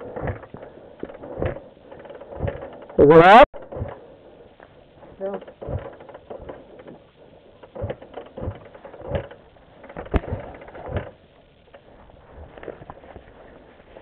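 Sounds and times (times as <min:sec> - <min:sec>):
knocks and thumps: 0:00.0 - 0:03.0, 0:03.6 - 0:13.2.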